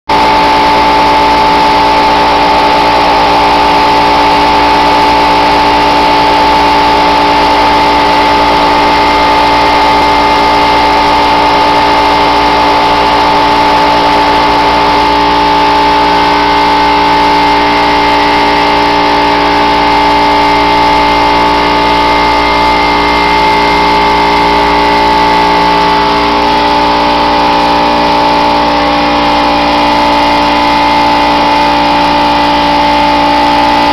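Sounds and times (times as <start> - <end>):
air compressor running: 0.1 - 33.9.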